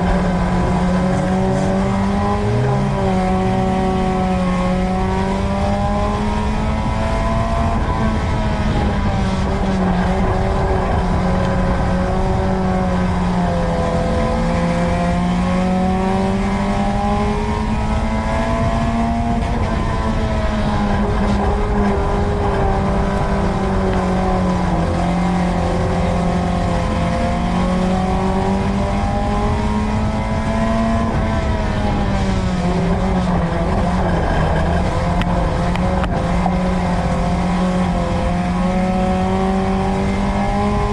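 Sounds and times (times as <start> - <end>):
race car engine at high revs: 0.0 - 40.9
tyre and wind noise: 0.0 - 40.9.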